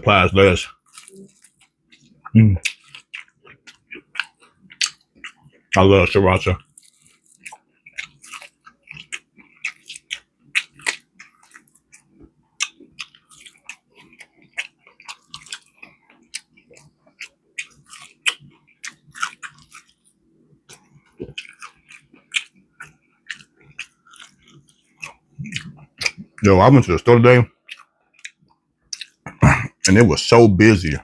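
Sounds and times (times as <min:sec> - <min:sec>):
person chewing chicken wings: 0:00.7 - 0:05.8, 0:06.4 - 0:26.6, 0:27.5 - 0:29.6.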